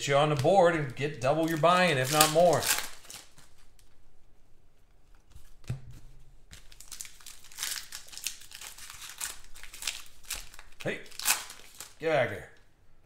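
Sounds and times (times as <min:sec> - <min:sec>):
cards and wrappers rustling: 0:00.0 - 0:03.9, 0:05.1 - 0:12.6.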